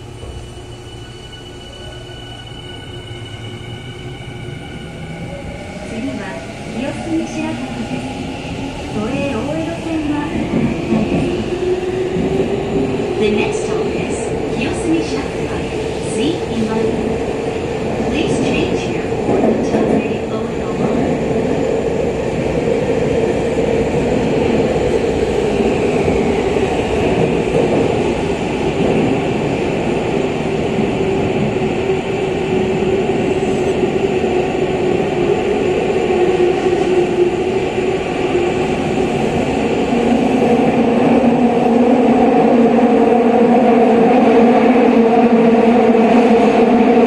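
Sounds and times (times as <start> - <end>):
subway train rumbling in tunnel: 0.0 - 47.0
train humming tone: 0.0 - 47.0.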